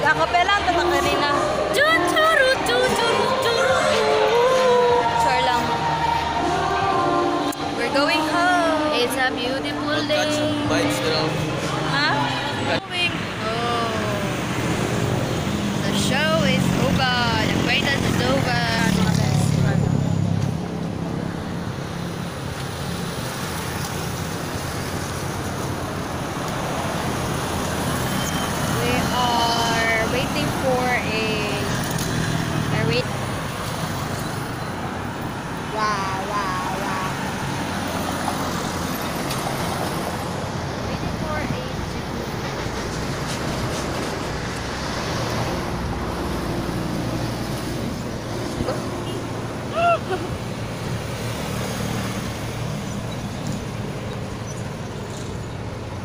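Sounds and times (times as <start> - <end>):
passing highway traffic: 0.0 - 56.0.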